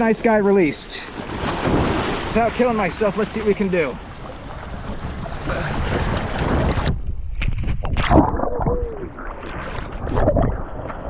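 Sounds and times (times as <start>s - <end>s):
wind buffeting microphone: 1.1s - 11.0s.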